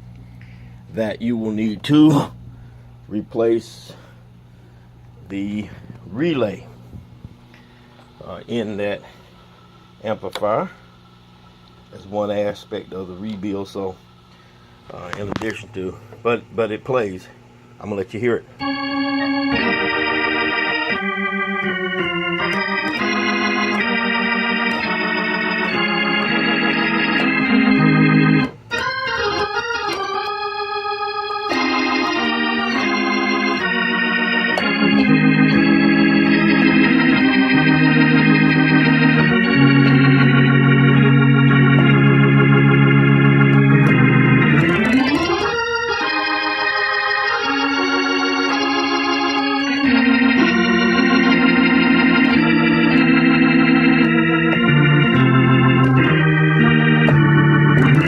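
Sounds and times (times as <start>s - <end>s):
organ chords with fast tremolo: 0.0s - 6.8s, 7.5s - 58.0s.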